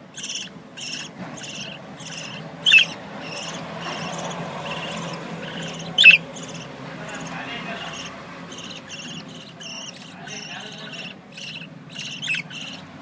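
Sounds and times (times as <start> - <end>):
budgerigars chirping: 0.0 - 13.0
sharp budgie call: 0.1 - 12.9.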